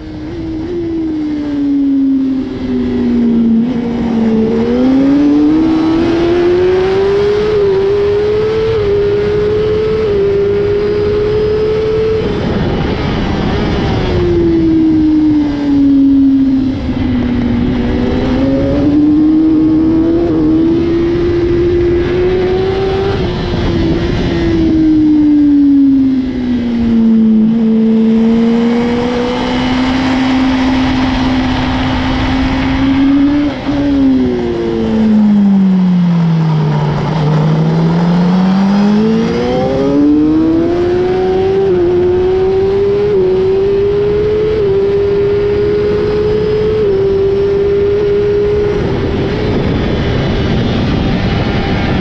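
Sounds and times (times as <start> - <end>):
motorcycle engine racing: 0.0 - 52.0
rush of wind: 0.0 - 52.0.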